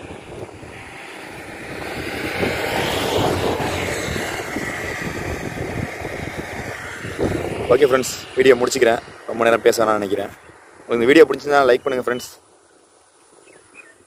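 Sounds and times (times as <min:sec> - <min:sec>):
vehicle passing by: 0:00.0 - 0:11.8
faint whine dropping in pitch: 0:00.0 - 0:12.4.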